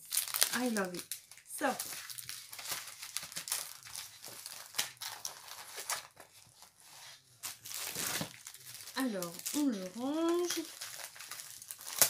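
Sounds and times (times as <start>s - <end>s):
plastic packaging crinkling: 0.0s - 6.8s, 7.4s - 12.0s.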